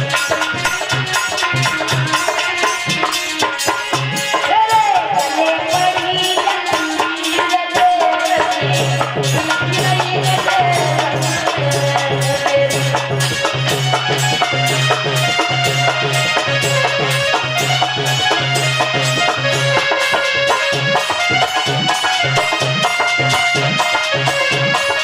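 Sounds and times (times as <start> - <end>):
fast percussion beat with rattles: 0.0 - 25.0
gliding melody line: 0.8 - 24.6.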